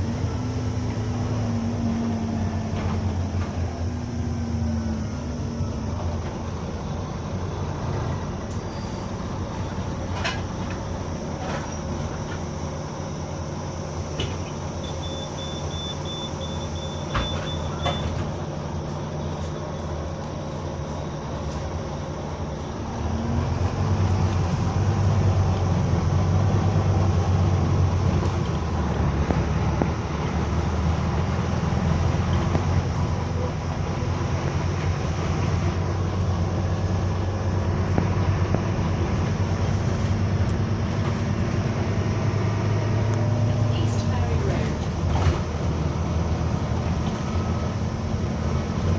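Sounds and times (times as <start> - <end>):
loud weird engine sound: 0.0 - 14.9, 17.8 - 48.9
bus engine droning: 0.0 - 48.9.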